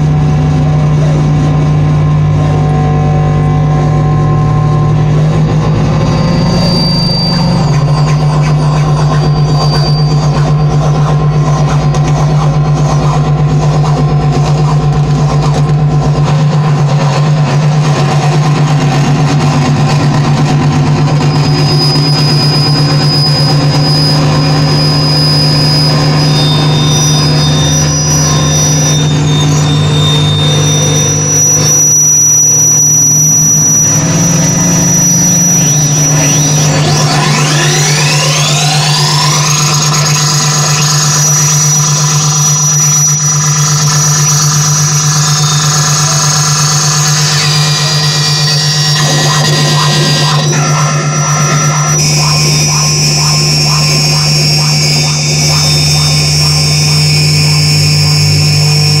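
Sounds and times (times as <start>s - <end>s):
low electronic drone: 0.0s - 59.0s
rising pitch glides: 0.0s - 59.0s
high whistling tones: 2.0s - 59.0s.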